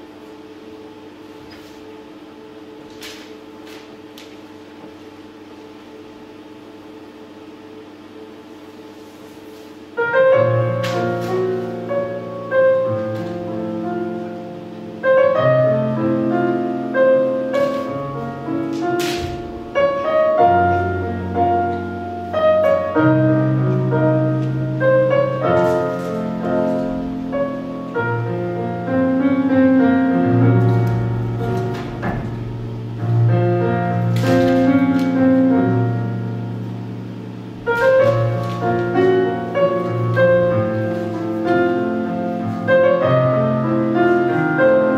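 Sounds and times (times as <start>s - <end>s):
piano chords ringing: 0.0s - 44.9s.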